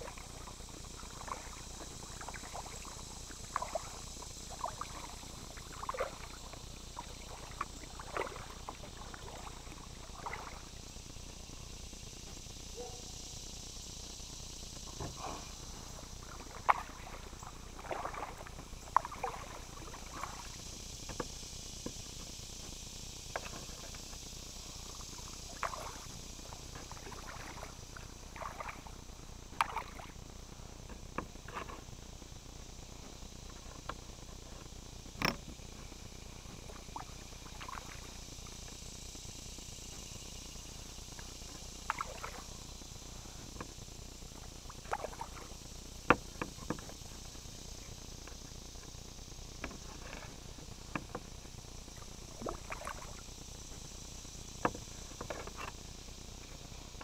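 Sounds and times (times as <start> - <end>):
paddle splashing water: 0.0 - 39.2, 39.9 - 57.0
steady high hiss: 0.0 - 57.0.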